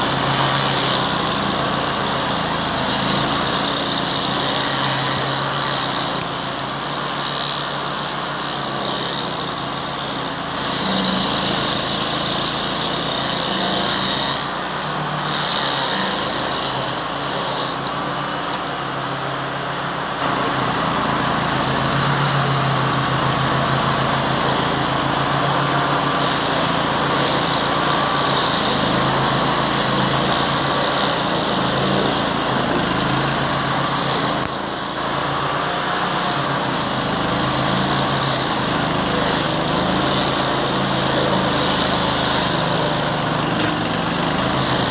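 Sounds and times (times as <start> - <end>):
stump grinder grinding wood: 0.0 - 44.9.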